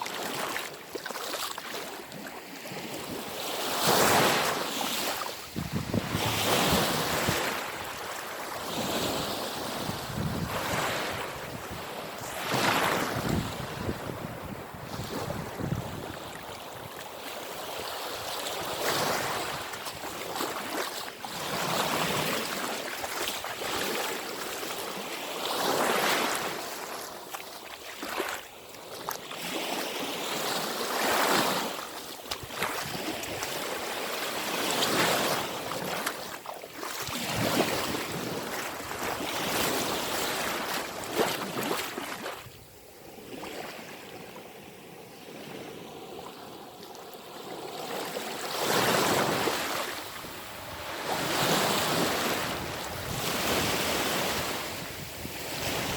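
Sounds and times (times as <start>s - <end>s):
small waves washing onto shore: 0.0s - 55.9s.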